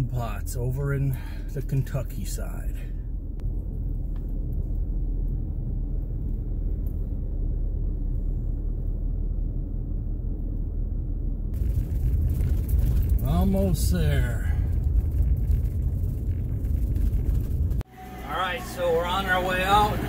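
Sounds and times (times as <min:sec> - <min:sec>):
truck engine rumble: 0:00.0 - 0:20.0
tyres and wind noise: 0:00.0 - 0:20.0.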